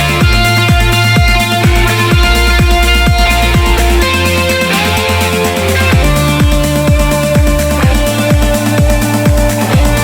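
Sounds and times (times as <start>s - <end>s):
kick drum beat: 0.0s - 10.0s
sustained synth tones: 0.0s - 10.0s.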